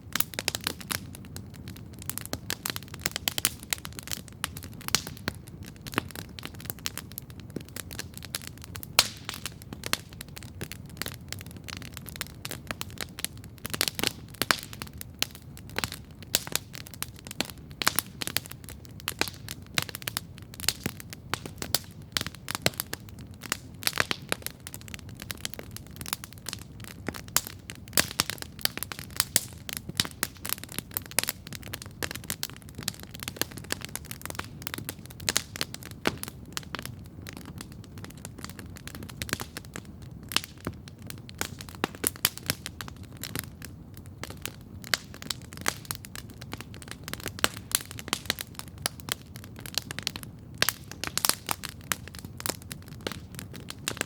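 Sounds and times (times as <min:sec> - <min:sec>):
campfire crackling and popping: 0:00.0 - 0:54.0
low rush of burning fire: 0:00.0 - 0:54.0.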